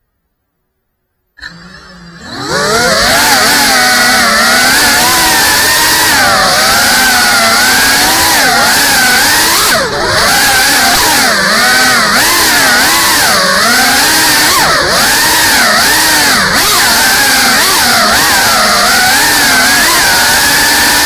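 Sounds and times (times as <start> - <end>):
drone motors and propellers whining: 1.4 - 21.0.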